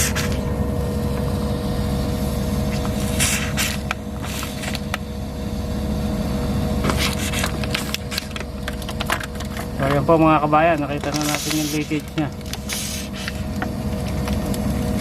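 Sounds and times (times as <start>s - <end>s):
constant whine: 0.0s - 15.0s
machine hum: 0.0s - 15.0s.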